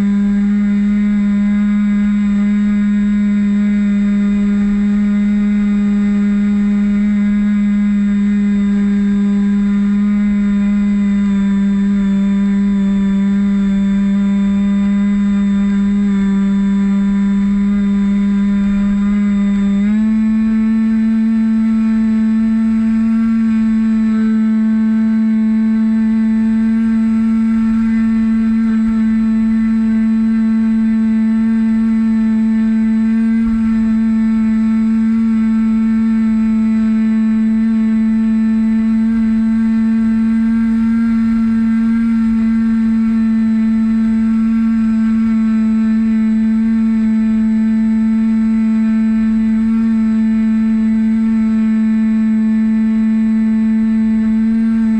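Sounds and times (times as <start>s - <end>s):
electric motor and propeller whine: 0.0s - 54.9s.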